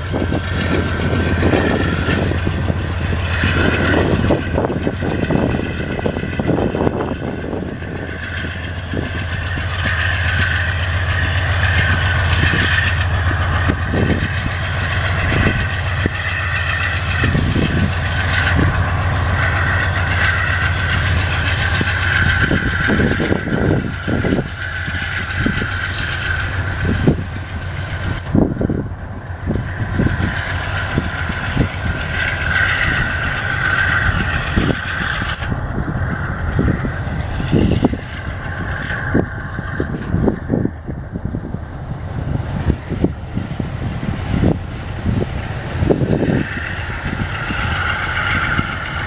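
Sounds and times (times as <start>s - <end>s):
locomotive engine drone: 0.0s - 49.0s
train wheels knocking on track: 0.0s - 49.0s.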